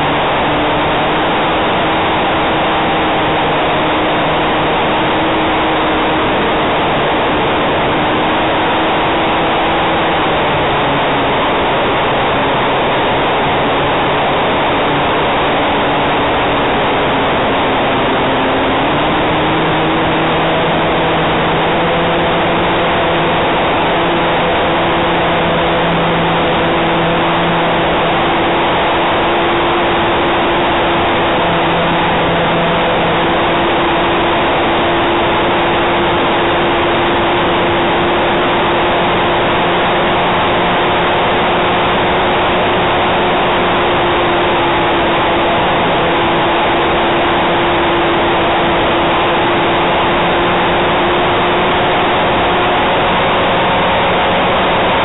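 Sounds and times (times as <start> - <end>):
propeller and wind rush: 0.0 - 55.0.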